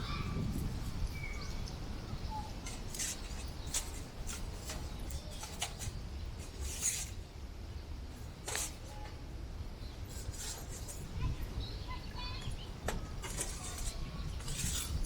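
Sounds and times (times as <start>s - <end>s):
wind buffeting microphone: 0.0s - 8.4s, 9.3s - 15.0s.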